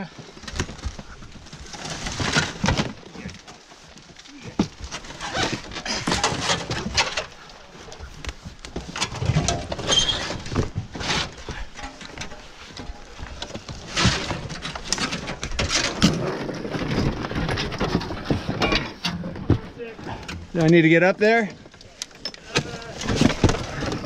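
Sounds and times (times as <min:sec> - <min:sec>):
wreckage knocking and clattering: 0:00.4 - 0:20.8.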